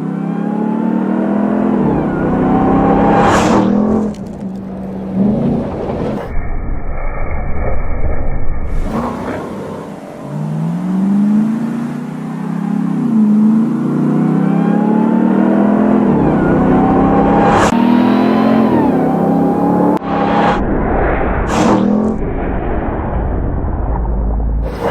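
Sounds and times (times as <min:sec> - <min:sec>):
truck engine accelerating: 0:00.0 - 0:06.4, 0:08.6 - 0:24.9.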